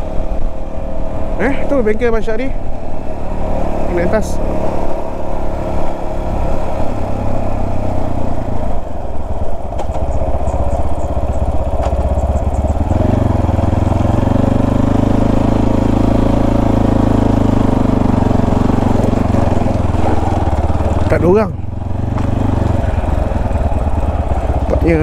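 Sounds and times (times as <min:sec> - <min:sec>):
small motorcycle engine: 0:00.0 - 0:25.0.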